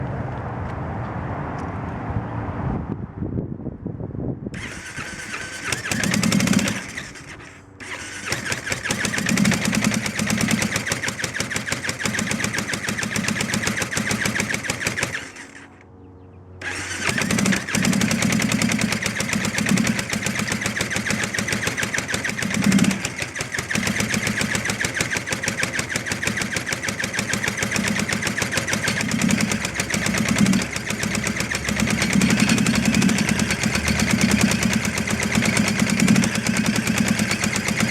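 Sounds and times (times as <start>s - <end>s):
motorcycle engine cranking: 4.6s - 15.8s, 16.6s - 37.9s.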